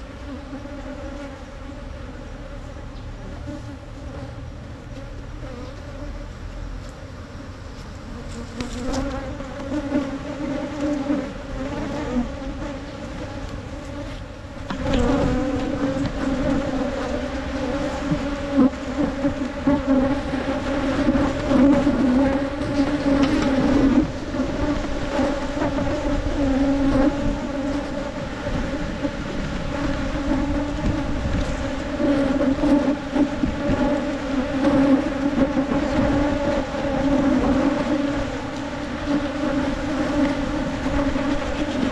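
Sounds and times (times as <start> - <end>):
bees buzzing: 0.0 - 41.9.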